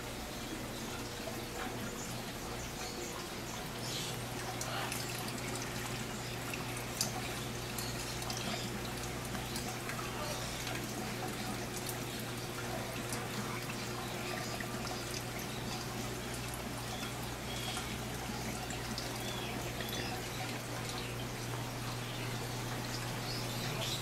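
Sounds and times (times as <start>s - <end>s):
constant low hum: 0.0s - 24.0s
water trickling and splashing: 0.0s - 24.0s.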